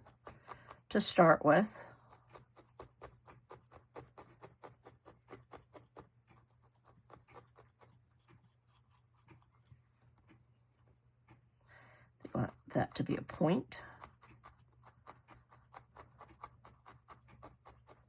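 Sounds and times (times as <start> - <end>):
felting needle stabbing wool: 0.0 - 9.7, 12.5 - 18.0.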